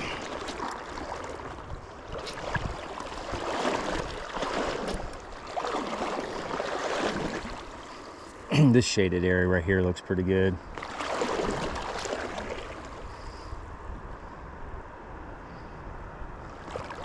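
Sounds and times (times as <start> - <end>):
stream water rippling over riffles: 0.0 - 13.6, 16.4 - 17.0.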